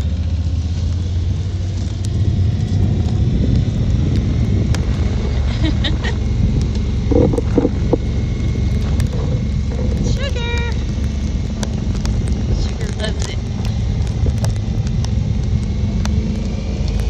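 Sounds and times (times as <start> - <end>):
utility vehicle engine rumble: 0.0 - 17.0.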